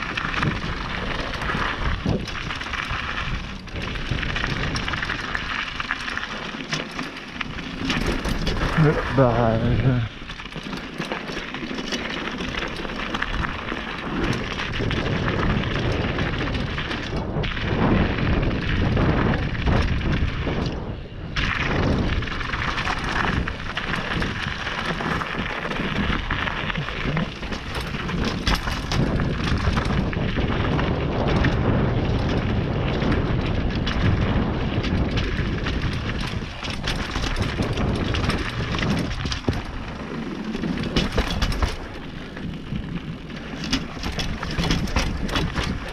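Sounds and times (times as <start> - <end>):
wind buffeting on microphone: 0.0 - 6.5, 7.4 - 10.6, 12.4 - 45.9
bike rattling: 0.0 - 45.9
tyres crunching over loose stones: 0.0 - 45.9.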